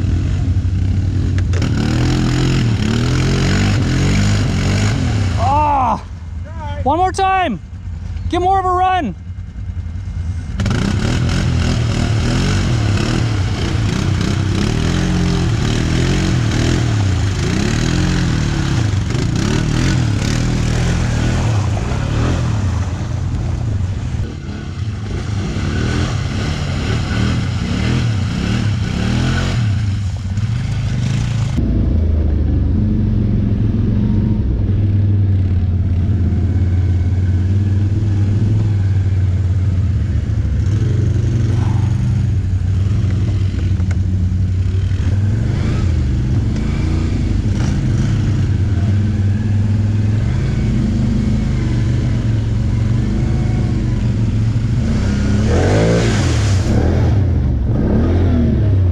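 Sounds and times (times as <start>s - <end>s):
atv engines revving: 0.0s - 58.9s
quad engine droning: 0.0s - 58.9s.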